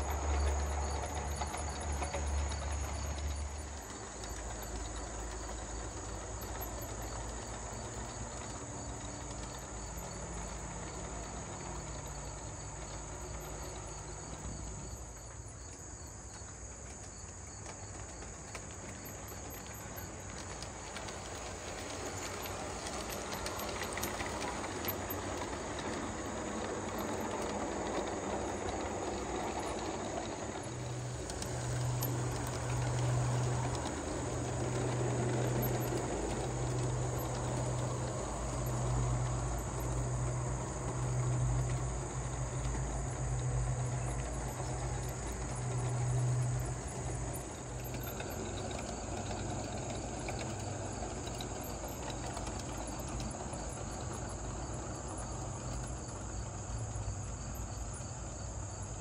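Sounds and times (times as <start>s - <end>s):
crickets chirping: 0.0s - 59.0s
model train rumbling on track: 0.0s - 59.0s.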